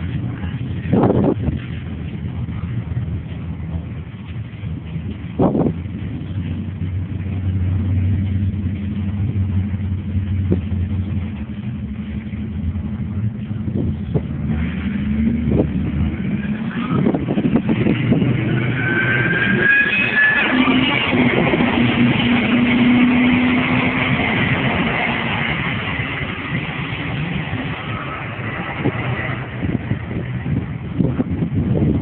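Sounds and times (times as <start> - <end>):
engine idling and revving: 0.0 - 32.0
supercharger whine: 0.0 - 32.0.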